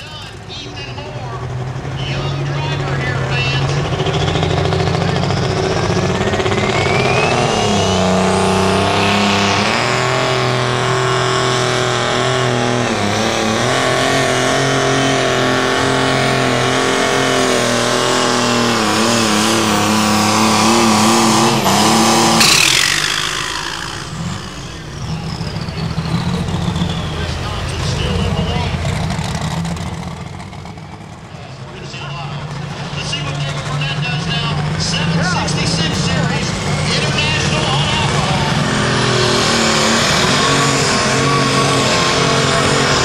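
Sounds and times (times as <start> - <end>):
diesel tractor engine at full throttle: 0.0 - 43.0
high turbo whine: 0.0 - 43.0.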